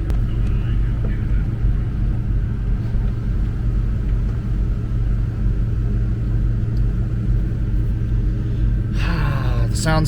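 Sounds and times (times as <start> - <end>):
car engine idling: 0.0 - 10.0
climate control fan blowing: 0.0 - 10.0.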